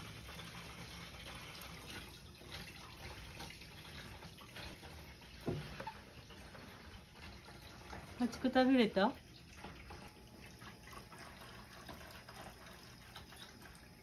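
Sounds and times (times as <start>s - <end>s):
tap water running into sink: 0.0s - 14.0s.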